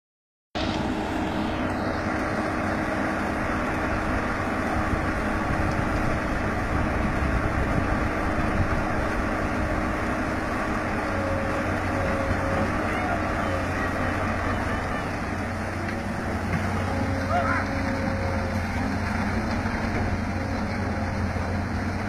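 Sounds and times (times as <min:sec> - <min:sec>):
excavator diesel engine humming: 0:00.6 - 0:22.0.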